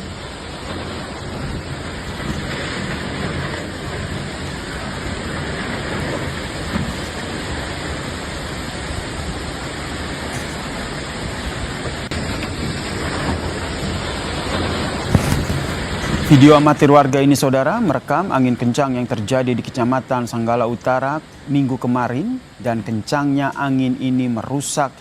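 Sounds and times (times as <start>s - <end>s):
strong storm wind rushing: 0.0s - 22.7s.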